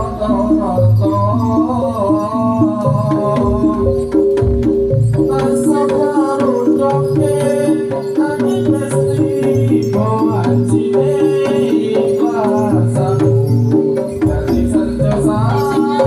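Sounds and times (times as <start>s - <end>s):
hand drums: 0.0s - 16.0s
repeating pitched ostinato: 0.0s - 16.0s.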